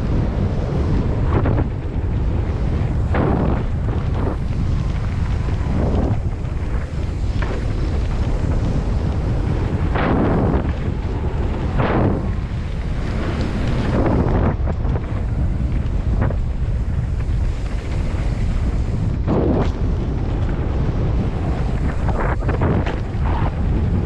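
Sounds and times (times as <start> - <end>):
bike tyres on dirt trail: 0.0 - 24.0
wind buffeting microphone: 0.0 - 24.0.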